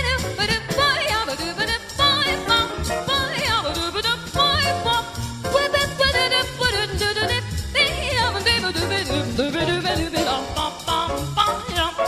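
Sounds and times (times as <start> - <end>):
swing jazz with bass and drums: 0.0 - 12.0.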